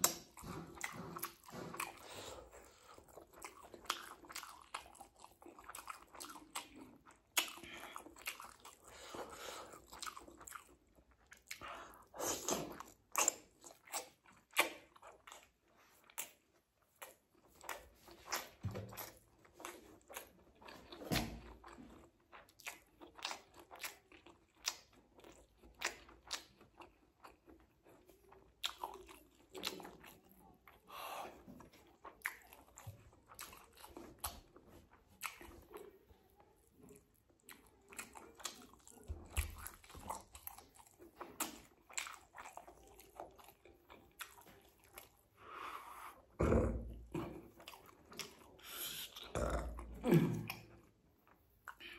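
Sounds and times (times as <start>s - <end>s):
wet chewing with clicks: 0.0s - 51.9s.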